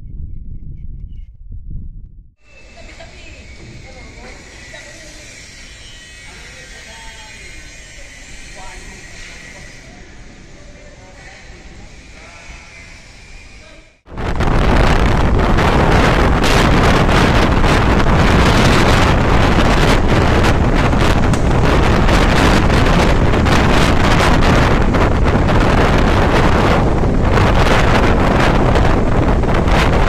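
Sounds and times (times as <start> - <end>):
wind gusting on microphone: 0.0 - 12.2, 14.0 - 30.0.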